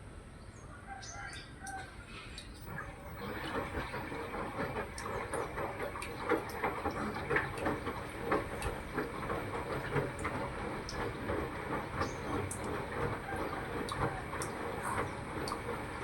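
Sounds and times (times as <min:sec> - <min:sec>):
washing machine rattling: 0:02.7 - 0:16.0.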